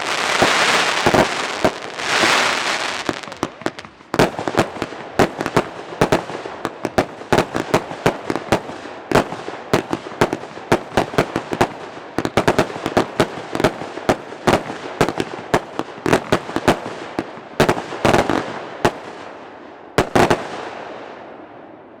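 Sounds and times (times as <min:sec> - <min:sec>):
fireworks crackle: 0:00.0 - 0:18.2
fireworks shots and bangs: 0:00.0 - 0:19.4, 0:20.0 - 0:21.2.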